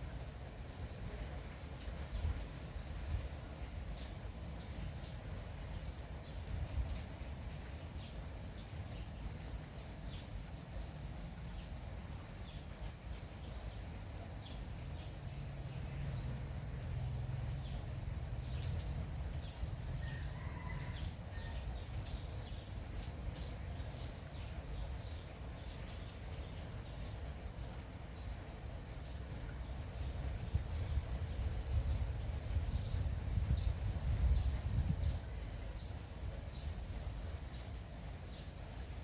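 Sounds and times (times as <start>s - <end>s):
small birds chirping: 0.6s - 16.4s, 17.0s - 39.0s.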